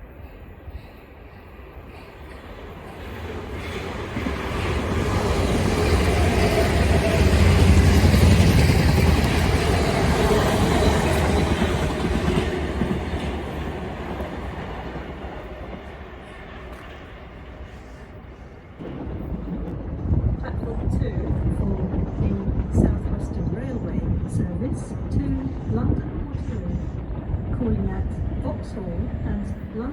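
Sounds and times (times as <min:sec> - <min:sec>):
passenger train passing: 0:00.0 - 0:29.9.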